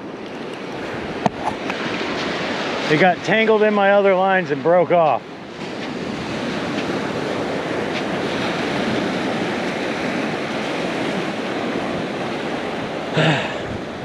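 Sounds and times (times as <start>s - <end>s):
ocean surf breaking on beach: 0.0s - 14.0s.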